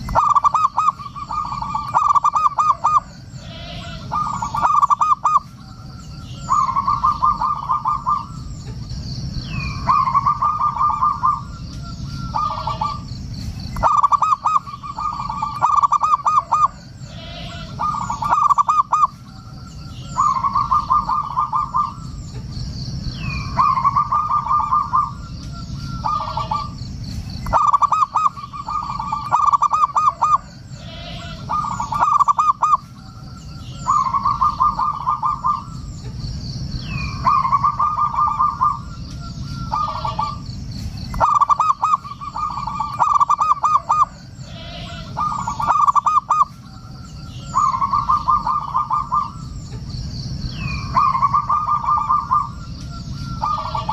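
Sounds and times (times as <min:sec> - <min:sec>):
dove cooing: 0:00.0 - 0:22.6, 0:23.2 - 0:26.8, 0:27.4 - 0:36.1, 0:36.8 - 0:40.5, 0:41.1 - 0:49.9, 0:50.5 - 0:53.9
low steady rumble: 0:00.0 - 0:53.9
small birds chirping: 0:00.0 - 0:53.9.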